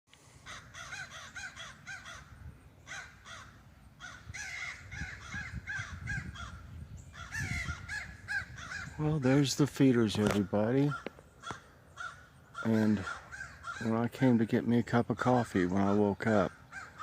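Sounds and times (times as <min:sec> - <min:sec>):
crows cawing: 0:00.3 - 0:14.4, 0:15.2 - 0:17.0.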